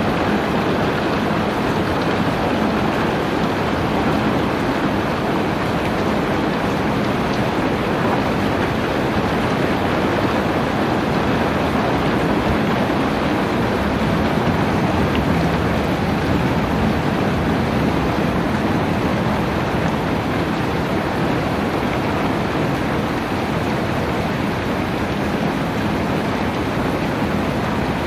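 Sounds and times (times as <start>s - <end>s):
rain falling steadily: 0.0s - 28.0s.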